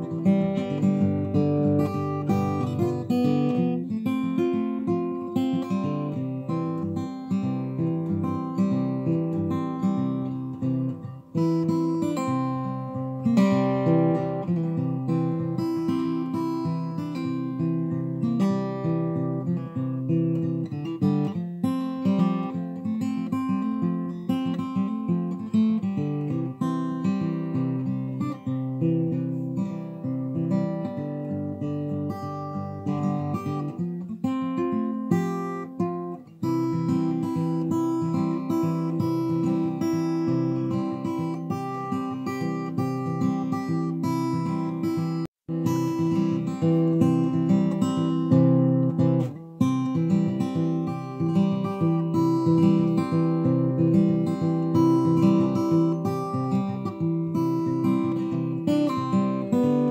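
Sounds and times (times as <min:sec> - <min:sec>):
plucked and strummed guitar: 0:00.0 - 0:59.9.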